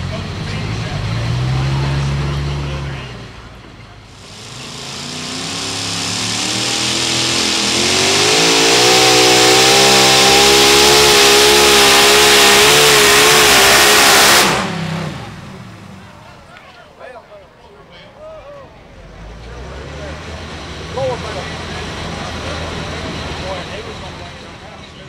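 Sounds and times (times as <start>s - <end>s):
supercharged engine at full throttle: 0.0s - 16.2s, 19.0s - 24.8s.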